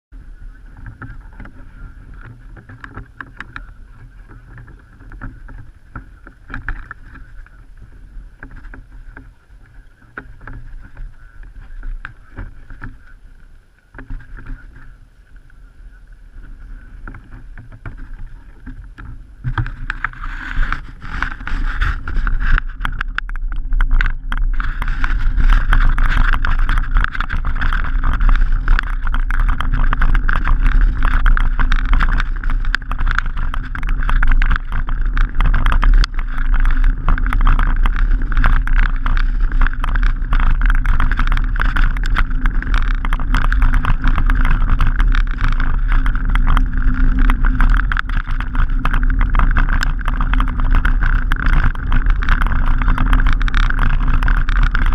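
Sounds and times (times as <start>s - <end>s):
wind rumble on microphone: 0.1s - 54.9s
bike rattling: 0.2s - 54.9s
bike tyres crunching on gravel: 0.2s - 54.9s
scattered clicks: 0.7s - 54.9s.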